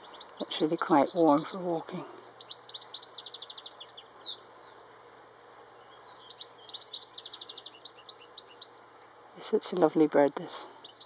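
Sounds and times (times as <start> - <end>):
bird twittering song: 0.0 - 11.0.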